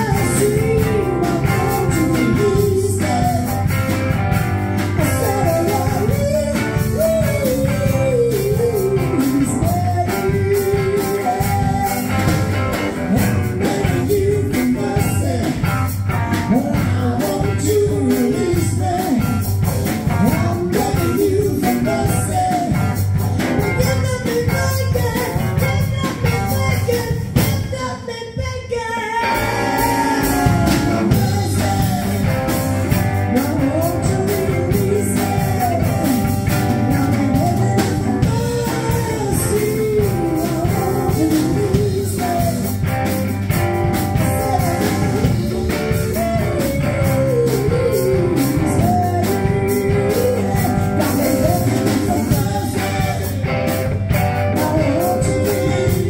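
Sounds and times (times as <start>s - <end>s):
woman singing lead: 0.0s - 3.8s, 4.9s - 12.5s, 16.3s - 43.2s, 43.9s - 56.0s
live rock band: 0.0s - 56.0s.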